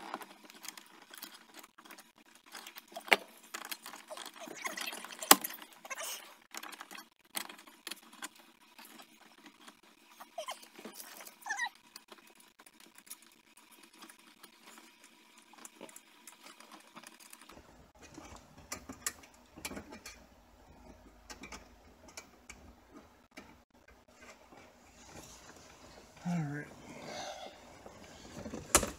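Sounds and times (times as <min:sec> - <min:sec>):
hands handling plastic parts: 0:00.0 - 0:26.2.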